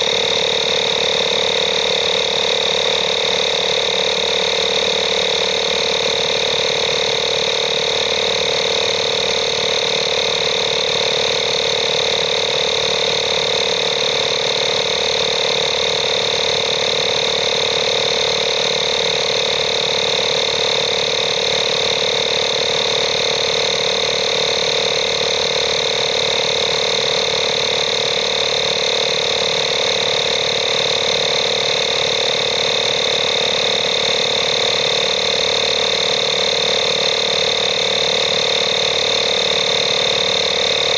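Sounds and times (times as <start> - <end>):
tyre inflator pump humming: 0.0 - 40.9.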